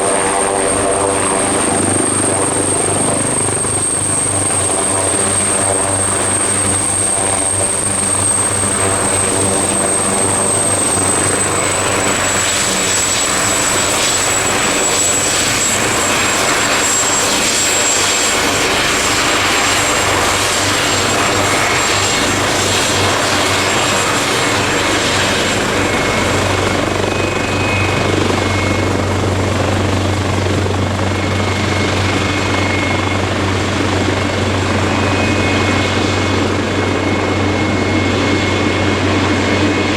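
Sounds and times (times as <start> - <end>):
helicopter rotor noise: 0.0 - 39.9
high turbine whine: 0.0 - 39.9.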